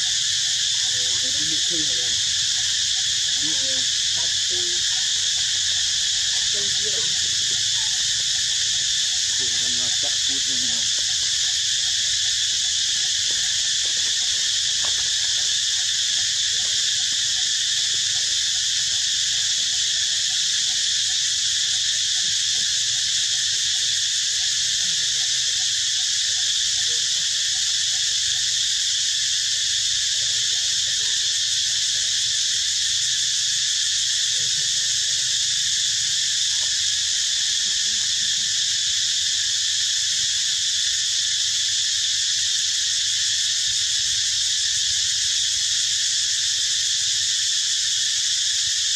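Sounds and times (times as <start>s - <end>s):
insects buzzing chorus: 0.0s - 48.9s.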